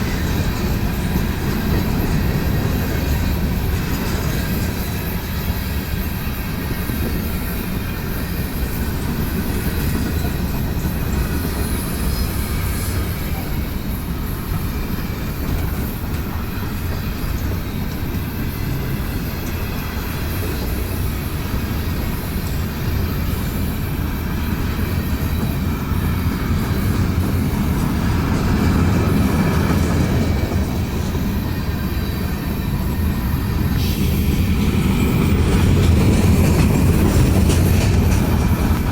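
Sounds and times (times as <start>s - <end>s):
train rumbling on rails: 0.0s - 38.9s.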